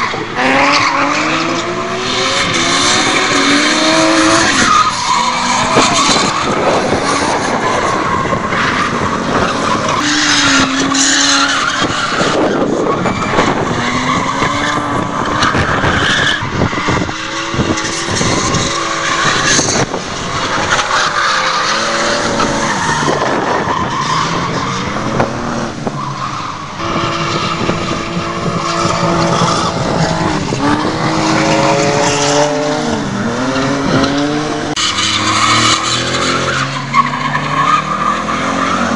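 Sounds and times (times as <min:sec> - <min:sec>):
car engines revving: 0:00.0 - 0:38.9
tyres skidding and squealing: 0:00.0 - 0:38.9.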